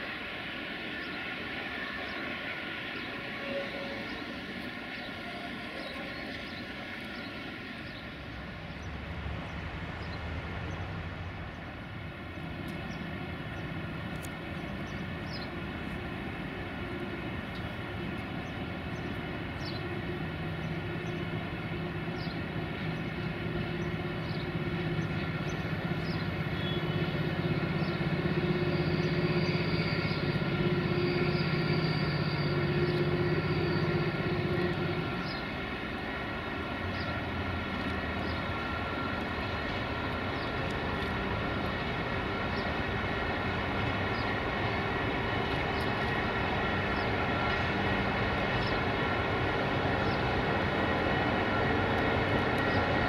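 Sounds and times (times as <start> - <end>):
train mechanical hum: 0.0 - 53.0.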